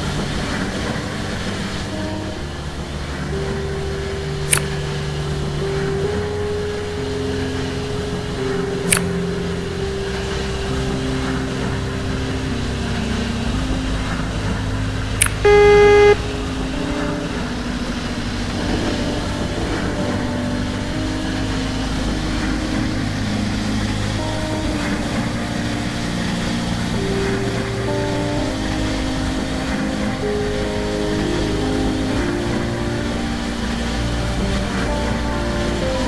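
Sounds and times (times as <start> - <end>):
train motor tones: 0.0 - 36.0
train horn blast: 5.2 - 36.0.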